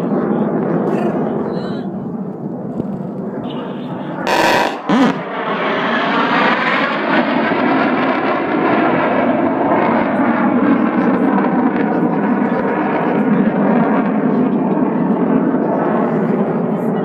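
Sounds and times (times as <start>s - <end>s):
fighter jet flying overhead: 0.0s - 17.0s.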